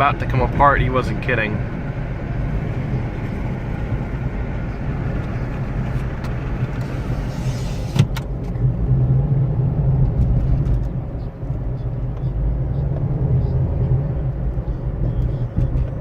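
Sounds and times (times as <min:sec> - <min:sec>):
wheel bearing low rumble: 0:00.0 - 0:16.0.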